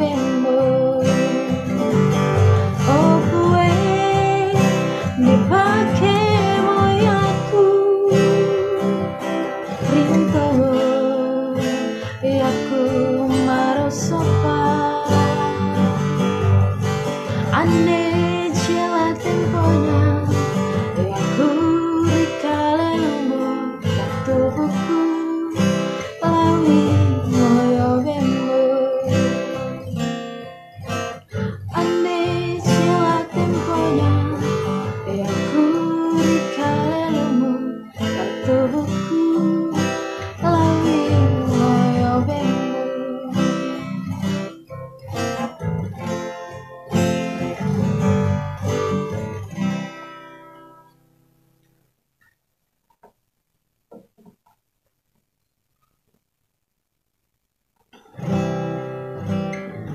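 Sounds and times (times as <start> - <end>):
acoustic guitar music: 0.0 - 56.2, 57.8 - 59.9.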